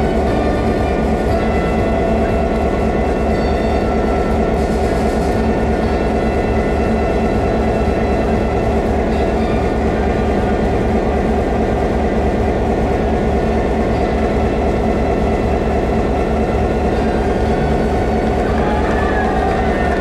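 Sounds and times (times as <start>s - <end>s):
constant hum: 0.0s - 20.0s
locomotive engine idling: 0.0s - 20.0s.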